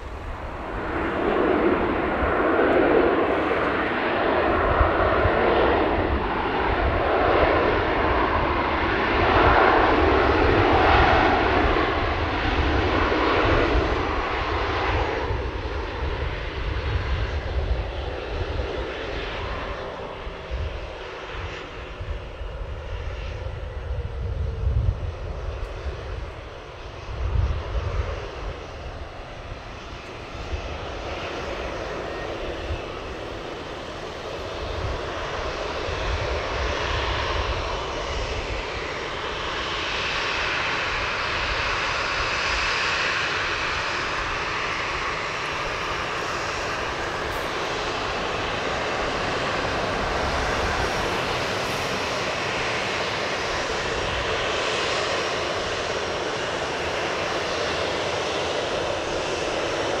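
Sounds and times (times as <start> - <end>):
jet engines rumble and whine: 0.0 - 60.0.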